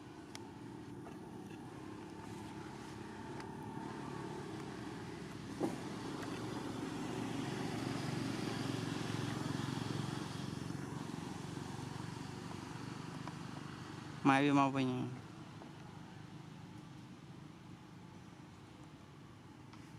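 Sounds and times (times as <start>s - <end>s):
vehicle engine rumbling: 0.0s - 16.4s.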